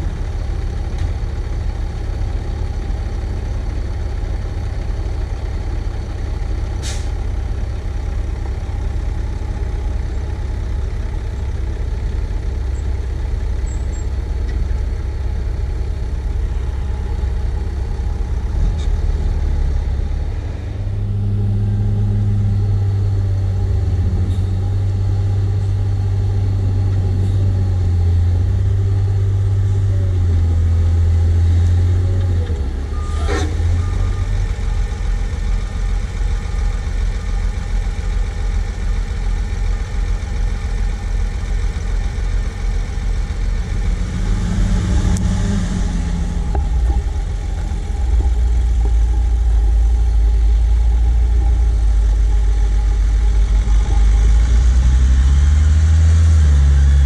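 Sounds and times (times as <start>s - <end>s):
dump truck idling: 0.0s - 57.0s
wheel loader diesel engine: 0.0s - 57.0s.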